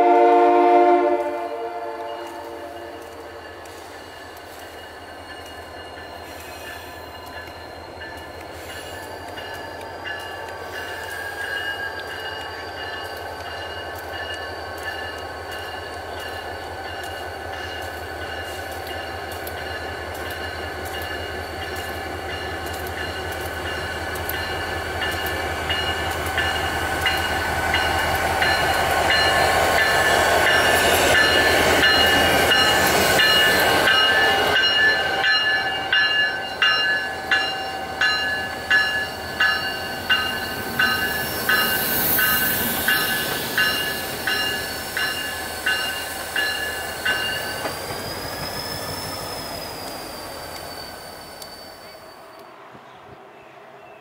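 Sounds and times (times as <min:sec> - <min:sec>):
diesel locomotive engine: 0:00.0 - 0:54.0
train wheels clacking on rails: 0:01.1 - 0:53.2
high ringing tone: 0:01.4 - 0:52.4.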